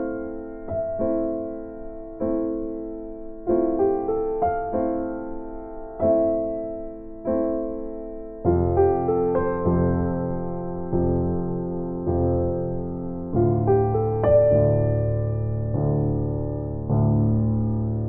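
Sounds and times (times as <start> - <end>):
deep piano bass notes: 0.0 - 18.0
slow piano chords: 0.0 - 18.0.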